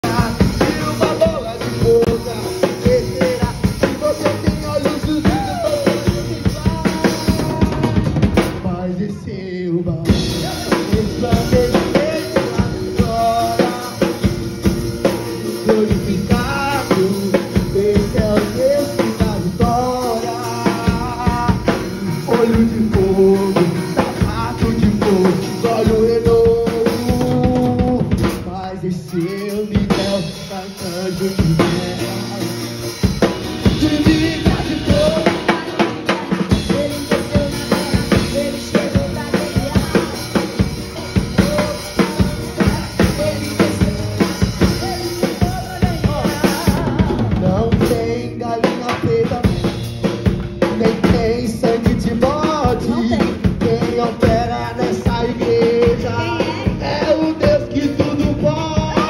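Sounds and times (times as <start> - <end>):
acoustic guitar: 0.0 - 59.0
drum kit playing: 0.0 - 59.0
man singing: 0.0 - 59.0.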